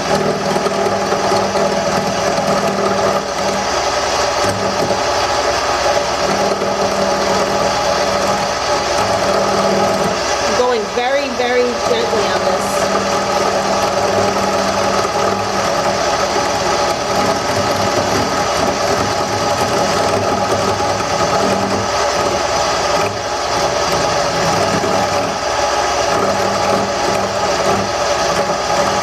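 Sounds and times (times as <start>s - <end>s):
gouge cutting spinning wood: 0.0s - 29.0s
wood lathe motor hum: 0.0s - 29.0s.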